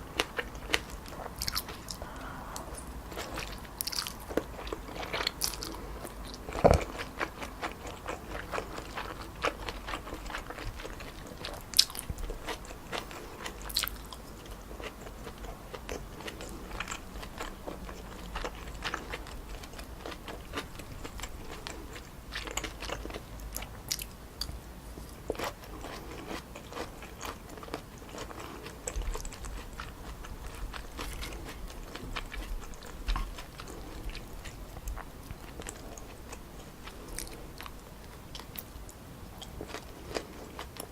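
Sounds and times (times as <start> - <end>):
chewing noodles: 0.0 - 40.9.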